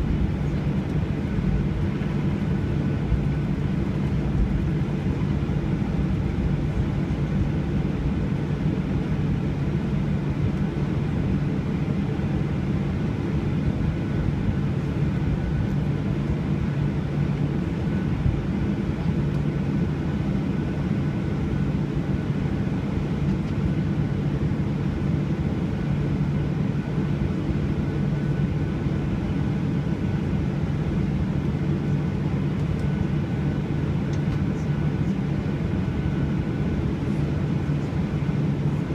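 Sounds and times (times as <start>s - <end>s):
jet engine drone: 0.0s - 38.9s.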